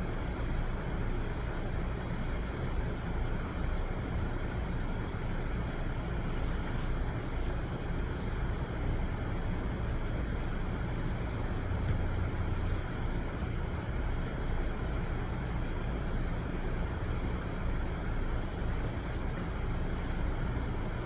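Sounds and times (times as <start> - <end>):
low rumble and hiss: 0.0 - 21.0.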